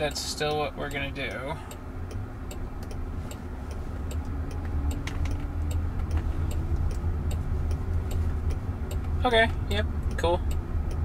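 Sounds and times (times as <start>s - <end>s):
turn signal ticking: 0.0s - 11.0s
tyre and road rumble: 0.0s - 11.0s.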